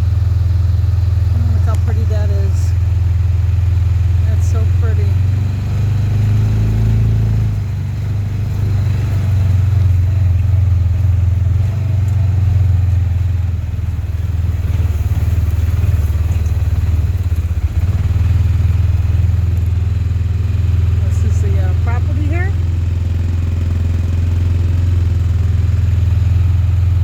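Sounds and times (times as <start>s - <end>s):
utility vehicle engine running: 0.0s - 27.0s.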